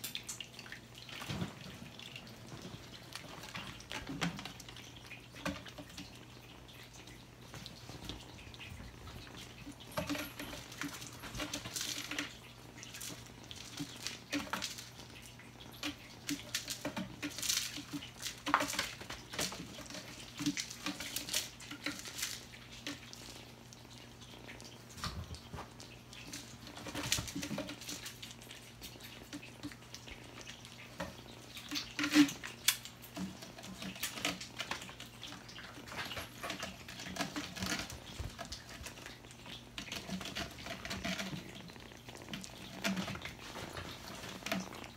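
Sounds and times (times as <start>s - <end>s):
kitten paws scratching and thumping: 1.0s - 44.9s.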